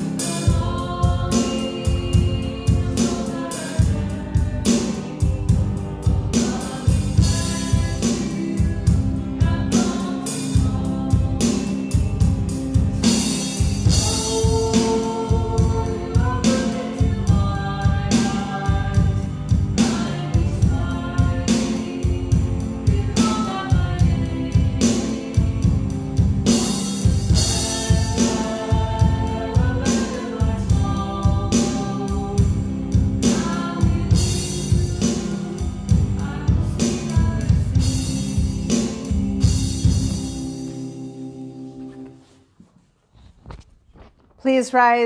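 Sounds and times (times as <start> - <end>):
steady drum beat: 0.0 - 40.9
voices singing worship song: 0.0 - 41.0
instrumental accompaniment: 0.0 - 42.9.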